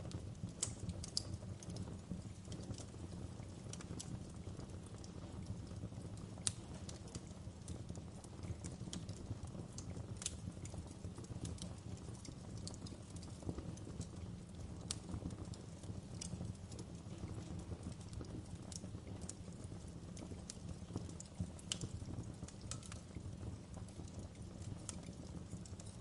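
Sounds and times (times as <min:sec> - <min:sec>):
fire low rumble: 0:00.0 - 0:26.0
wood fire crackling: 0:00.0 - 0:26.0.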